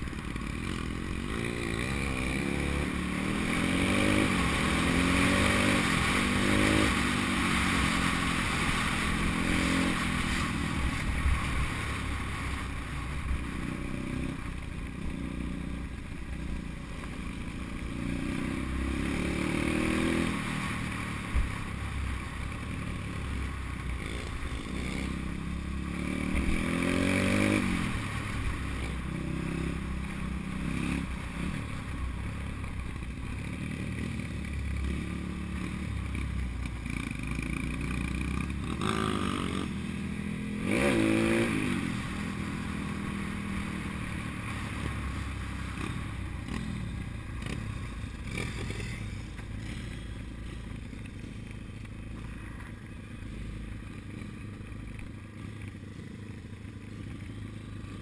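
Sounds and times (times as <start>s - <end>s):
pit bike engine revving: 0.0s - 16.6s, 17.3s - 21.8s, 22.4s - 31.7s, 33.3s - 54.6s.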